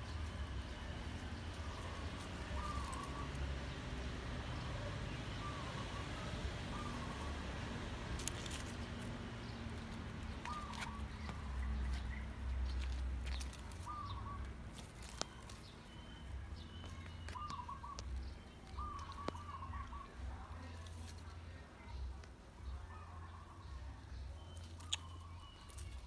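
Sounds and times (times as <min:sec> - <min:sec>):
small bird chirping: 0:00.0 - 0:26.0.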